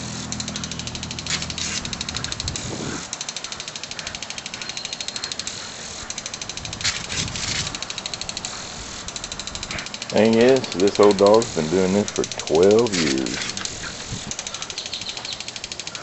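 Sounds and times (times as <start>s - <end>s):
lawn sprinkler ticking: 0.0s - 16.0s
water spray hissing: 0.0s - 16.0s.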